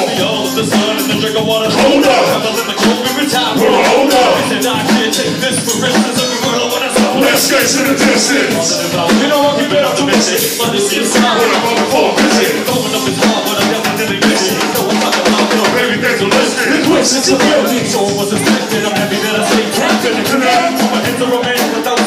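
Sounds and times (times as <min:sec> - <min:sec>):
live hip hop band: 0:00.0 - 0:22.0
voice on microphone: 0:00.9 - 0:05.5, 0:06.3 - 0:21.2.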